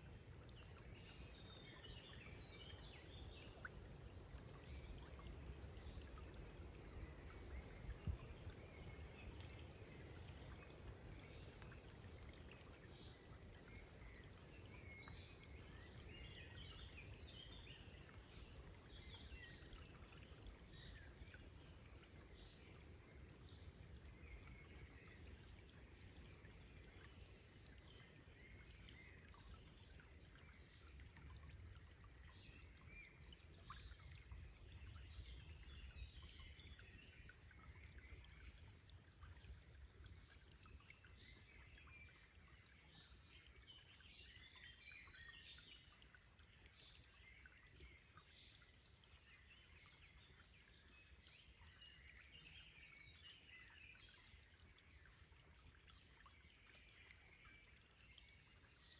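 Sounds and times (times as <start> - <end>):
faint birdsong chirps: 0.0 - 58.9.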